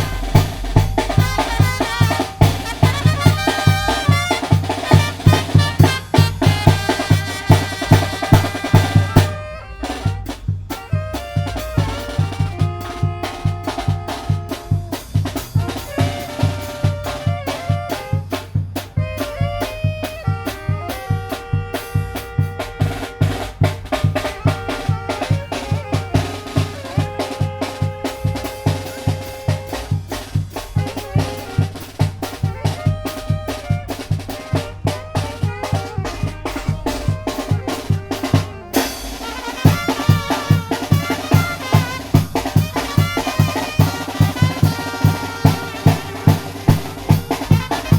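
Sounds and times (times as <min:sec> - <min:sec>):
bass drum and snare beat: 0:00.0 - 0:47.9
brass band melody: 0:00.0 - 0:47.9.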